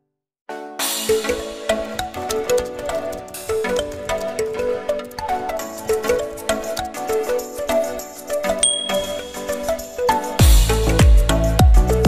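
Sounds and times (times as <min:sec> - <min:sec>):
music with melody and steady beat: 0:00.5 - 0:12.0.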